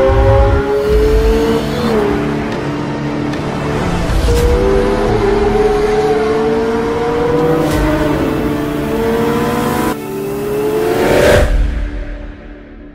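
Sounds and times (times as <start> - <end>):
car engine accelerating hard: 0.0 - 11.8.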